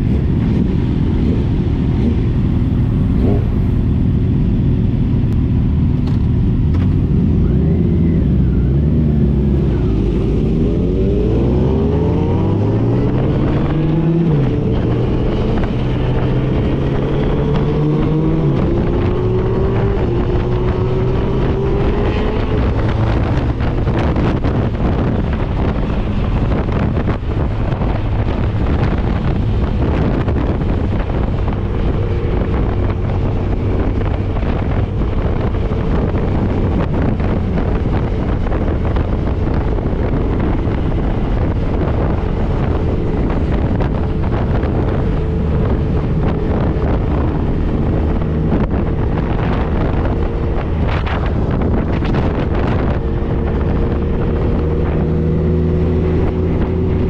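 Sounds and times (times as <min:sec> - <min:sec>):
motorcycle engine shifting gears: 0:00.0 - 0:57.0
wind buffeting microphone: 0:00.0 - 0:57.0.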